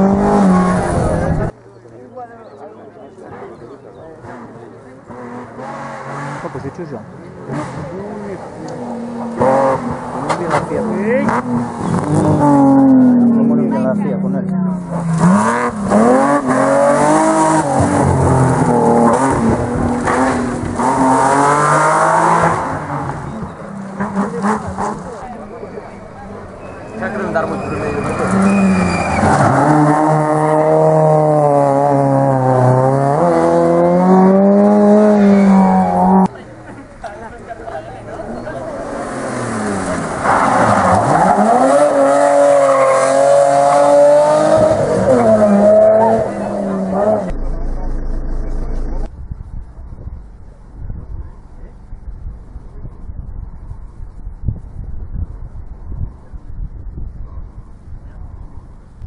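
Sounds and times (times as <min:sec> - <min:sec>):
rally car engine revving: 0:00.0 - 0:01.6, 0:03.2 - 0:36.8, 0:37.4 - 0:49.7
gravel and tyre noise: 0:00.0 - 0:59.0.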